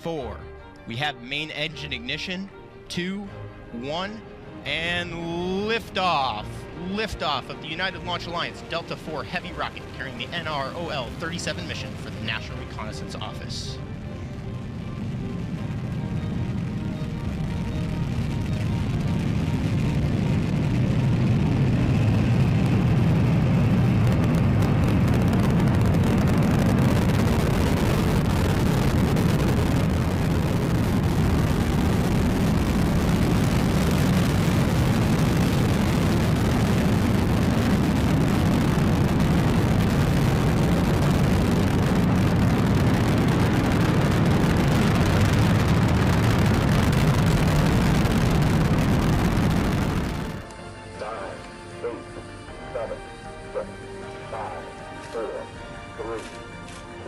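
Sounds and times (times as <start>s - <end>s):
rocket engines rumbling: 4.7s - 56.2s.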